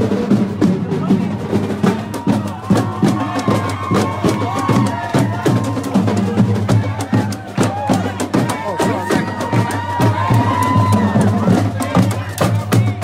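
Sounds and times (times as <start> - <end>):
drums beating marching rhythm: 0.0 - 13.0
raised voices: 1.1 - 13.0.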